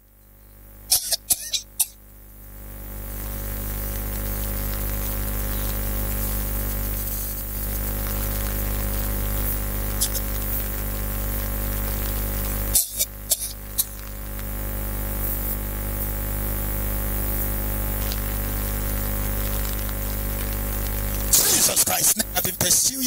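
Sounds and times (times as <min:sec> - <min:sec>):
low electrical hum: 0:00.0 - 0:23.0
steady hiss: 0:00.9 - 0:23.0.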